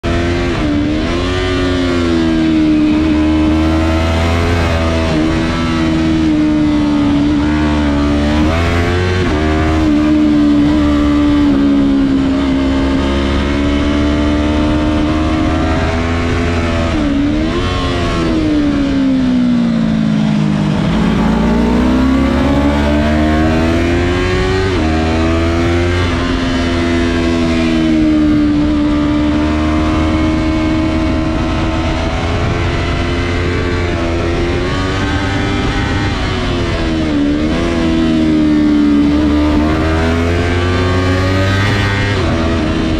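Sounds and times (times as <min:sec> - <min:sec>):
motorcycle engine revving high: 0:00.0 - 0:42.9.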